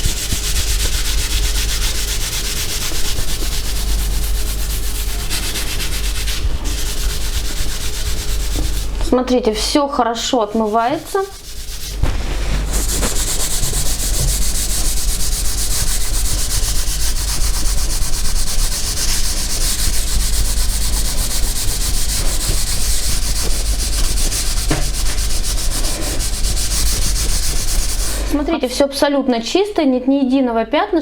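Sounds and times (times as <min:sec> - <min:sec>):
cloth scrubbing ceramic tiles: 0:00.0 - 0:28.6.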